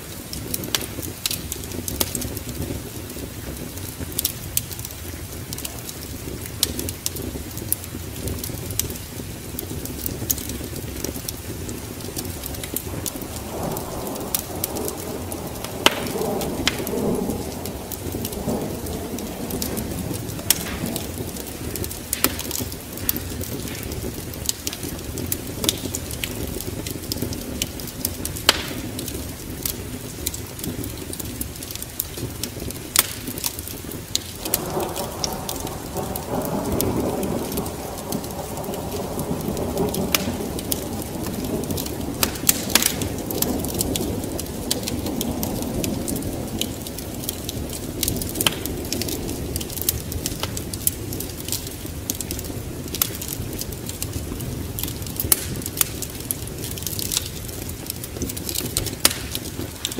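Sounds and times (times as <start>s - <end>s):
steady rain: 0.0s - 59.9s
thunder rumbling: 0.0s - 59.9s
wood fire crackling: 0.0s - 59.9s.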